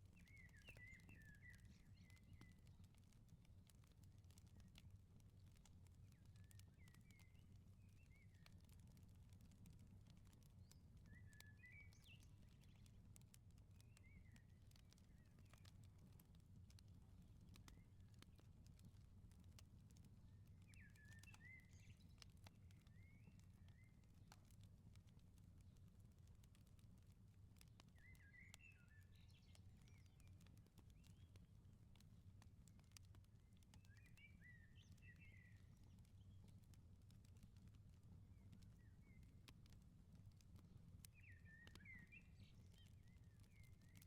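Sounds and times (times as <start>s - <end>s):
small birds chirping: 0.0s - 26.9s, 27.6s - 44.0s
firepit crackling and popping: 0.0s - 44.0s.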